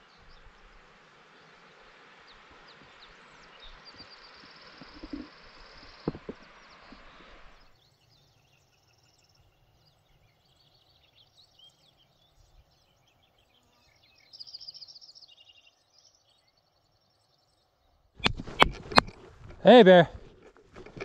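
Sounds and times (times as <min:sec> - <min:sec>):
songbird chirps: 0:00.0 - 0:21.0.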